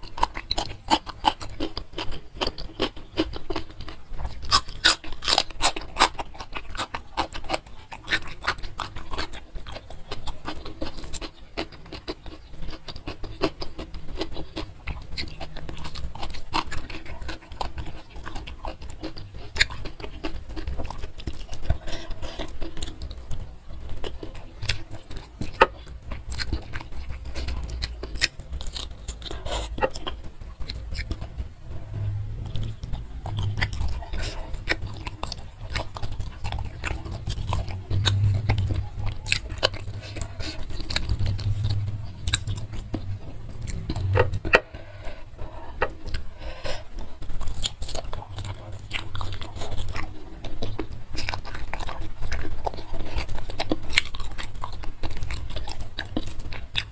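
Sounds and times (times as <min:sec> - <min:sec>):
chewing and crunching vegetables: 0:00.0 - 0:56.9.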